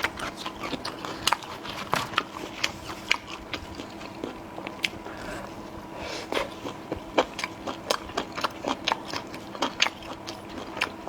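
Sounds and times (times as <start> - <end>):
person biting and chewing food: 0.0 - 11.0.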